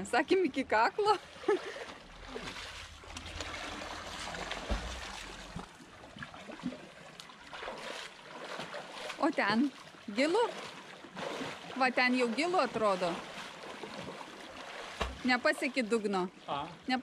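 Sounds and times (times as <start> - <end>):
water splashing from swimmer: 1.0 - 17.0.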